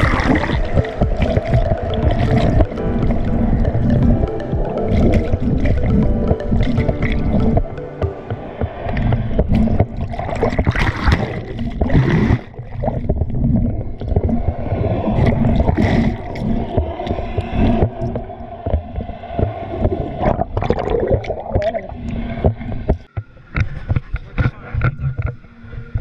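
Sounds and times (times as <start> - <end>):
water sloshing and gurgling: 0.0 - 26.0.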